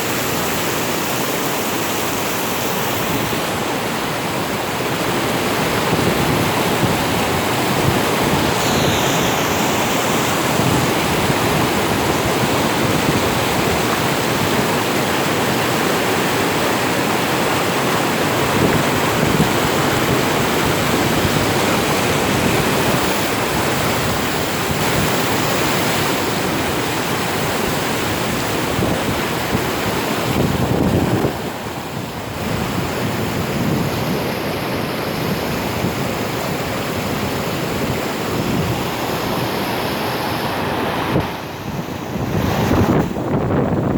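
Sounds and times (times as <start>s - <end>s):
river rushing: 0.0s - 43.9s.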